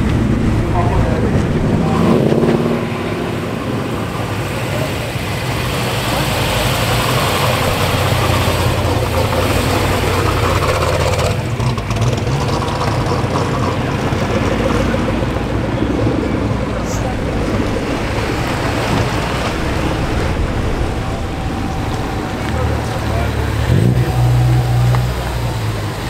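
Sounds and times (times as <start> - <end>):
car engines idling: 0.0 - 26.0.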